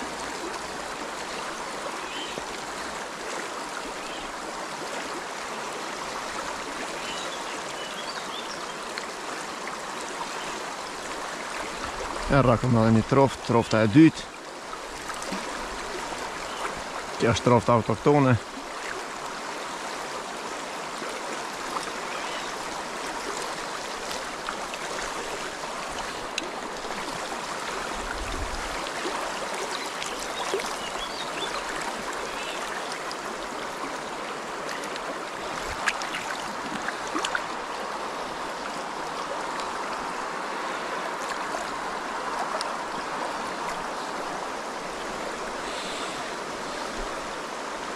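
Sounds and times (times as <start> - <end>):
river running over stones: 0.0 - 47.9.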